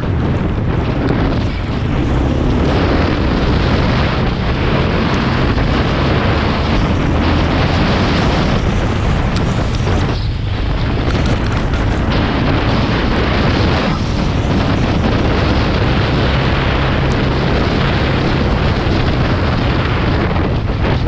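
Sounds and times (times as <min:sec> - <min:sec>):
quad bike engine running: 0:00.0 - 0:21.0
wind buffeting microphone: 0:00.0 - 0:21.0.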